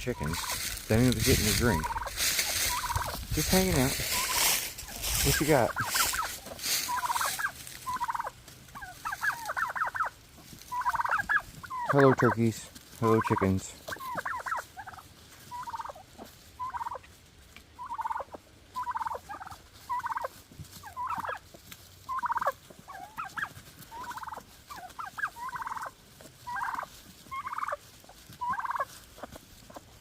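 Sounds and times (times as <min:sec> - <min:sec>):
turkey rattling calls: 0:00.0 - 0:30.0.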